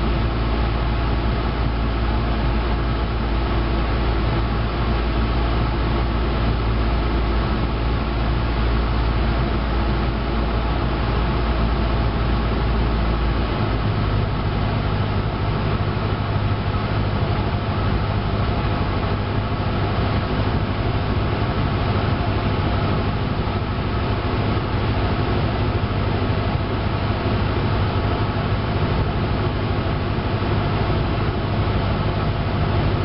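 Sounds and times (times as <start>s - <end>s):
airplane engine and propeller droning: 0.0s - 33.0s.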